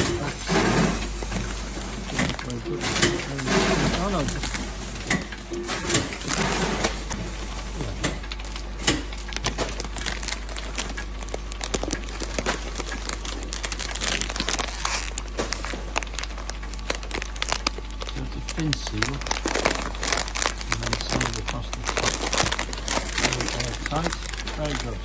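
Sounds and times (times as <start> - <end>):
machine clicks and crinkling: 0.0 - 25.0
machine low hum: 0.0 - 25.0
plastic snack bag crinkling: 0.3 - 25.0.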